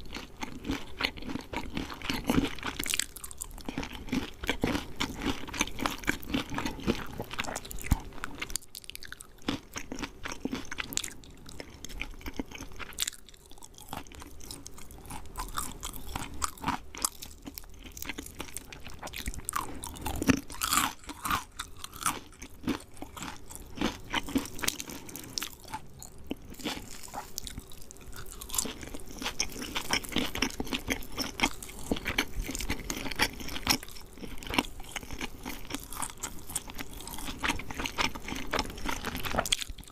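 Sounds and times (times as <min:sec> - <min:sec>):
person chewing crunchy fried chicken: 0:00.0 - 0:39.9.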